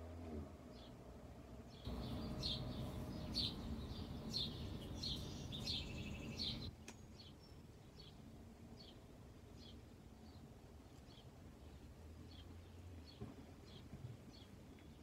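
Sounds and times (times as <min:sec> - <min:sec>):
low rumbling background noise: 0:00.0 - 0:15.0
songbird chirping: 0:00.6 - 0:15.0.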